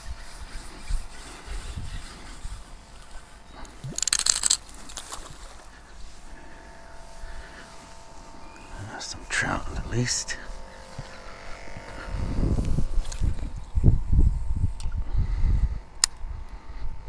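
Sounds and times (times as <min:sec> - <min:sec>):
construction machinery hum: 0:00.0 - 0:14.0
wind rumbling on microphone: 0:00.0 - 0:17.0.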